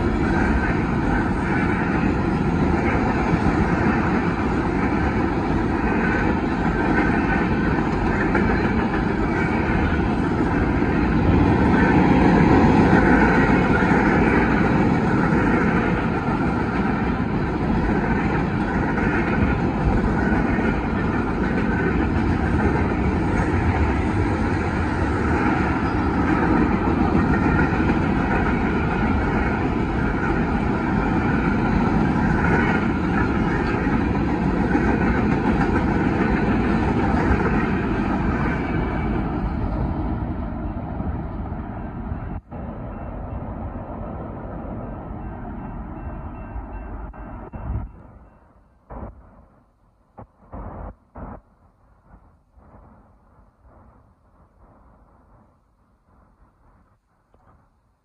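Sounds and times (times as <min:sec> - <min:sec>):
steel wheels on rails: 0:00.0 - 0:58.0.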